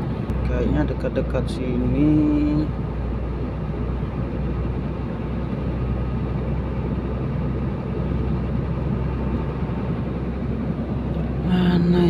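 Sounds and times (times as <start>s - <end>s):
road noise: 0.0s - 12.0s
truck engine droning: 0.0s - 12.0s.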